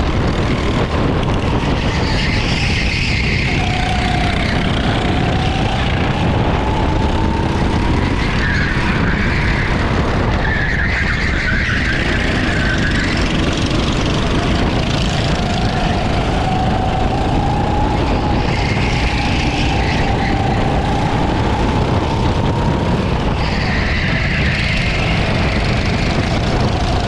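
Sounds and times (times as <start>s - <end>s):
go-kart engine running hard: 0.0s - 27.0s.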